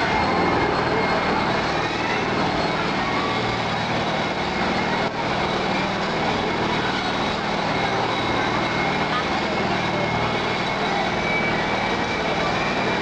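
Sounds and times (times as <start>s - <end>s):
airplane cabin rushing and rumbling: 0.0s - 13.0s.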